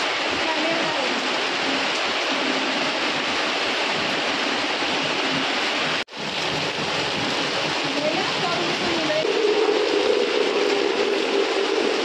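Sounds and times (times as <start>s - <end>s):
heavy rain on street: 0.0s - 12.0s.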